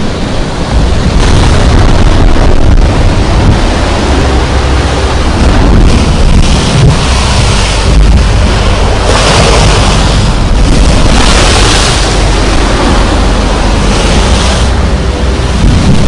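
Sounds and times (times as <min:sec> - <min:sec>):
waves breaking against seawall: 0:00.0 - 0:16.0
wind buffeting microphone: 0:00.0 - 0:16.0.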